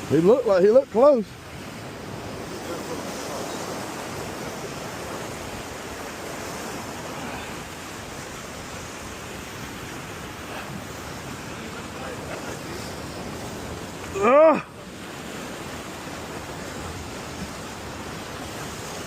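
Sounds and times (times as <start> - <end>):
surf washing against jetty: 0.0 - 19.0
wind: 0.0 - 19.0.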